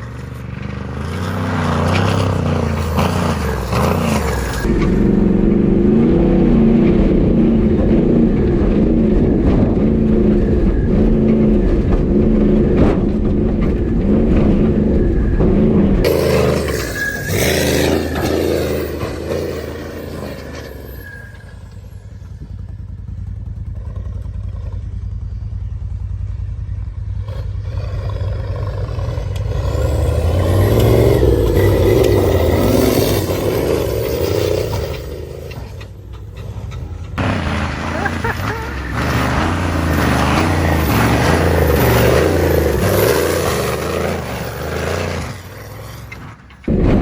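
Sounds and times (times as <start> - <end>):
diesel truck engine under load: 0.0 - 47.0.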